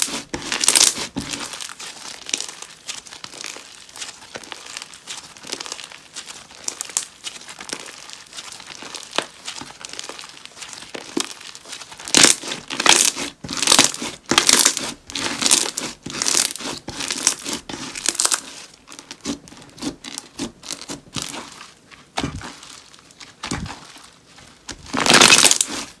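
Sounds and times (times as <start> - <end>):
slime squishing and crackling: 0.0 - 26.0.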